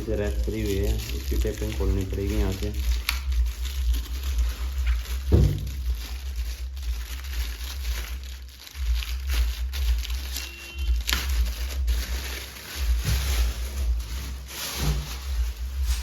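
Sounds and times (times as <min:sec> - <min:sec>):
low steady hum: 0:00.0 - 0:16.0
packing tape tearing: 0:00.0 - 0:16.0
plastic packaging crinkling: 0:00.0 - 0:16.0.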